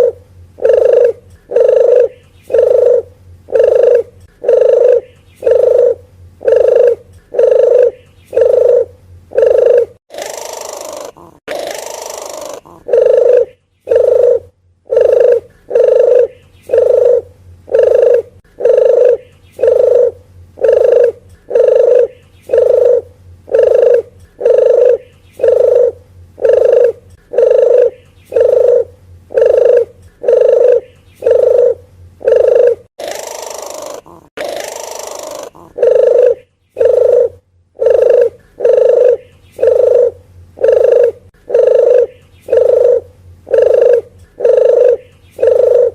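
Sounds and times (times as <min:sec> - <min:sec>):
dove cooing: 0:00.0 - 0:45.9
harsh dove call: 0:00.0 - 0:45.9.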